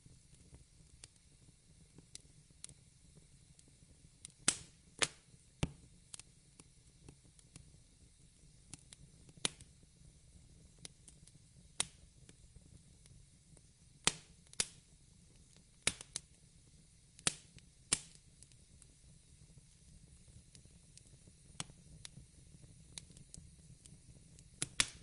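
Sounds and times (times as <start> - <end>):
faint low background noise: 0.0 - 25.0
wood fire crackling: 0.0 - 25.0.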